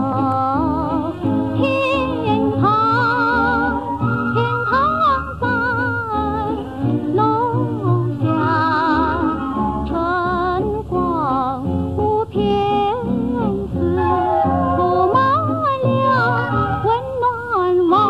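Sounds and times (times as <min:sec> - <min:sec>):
instrumental accompaniment: 0:00.0 - 0:18.0
woman singing with vibrato: 0:00.0 - 0:18.0.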